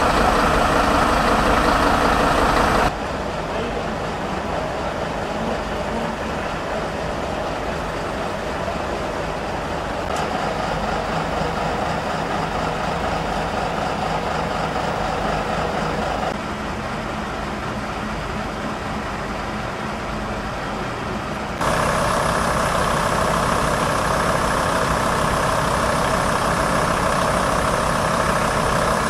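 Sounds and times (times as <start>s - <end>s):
diesel engines idling: 0.0s - 29.0s.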